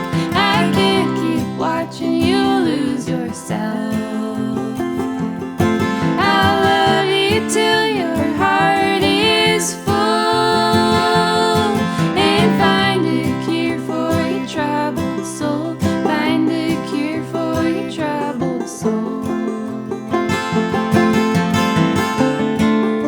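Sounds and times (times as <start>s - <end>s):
person singing: 0.0s - 20.1s
acoustic guitar: 0.0s - 23.0s.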